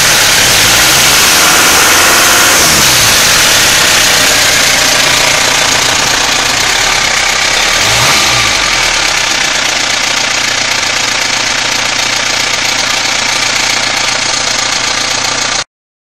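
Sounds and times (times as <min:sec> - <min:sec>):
diesel engine running: 0:00.0 - 0:15.6
strange engine noise: 0:00.0 - 0:15.6.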